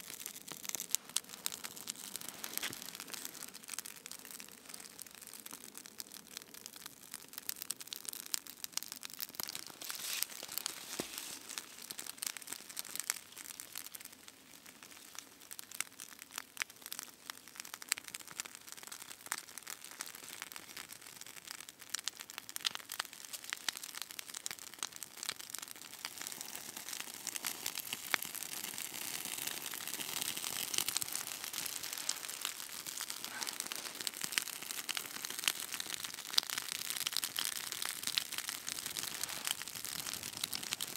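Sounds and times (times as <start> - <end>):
tinder and kindling crackling: 0.0 - 40.9.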